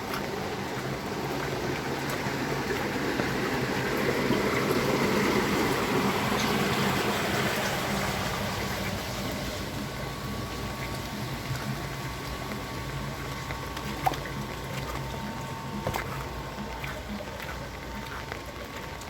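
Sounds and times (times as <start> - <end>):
low hum: 0.0 - 19.0
water running and splashing: 0.0 - 19.0.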